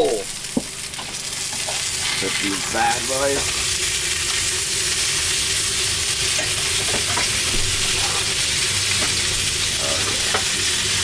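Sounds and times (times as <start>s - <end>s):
steaks sizzling in frying pans: 0.0s - 11.0s.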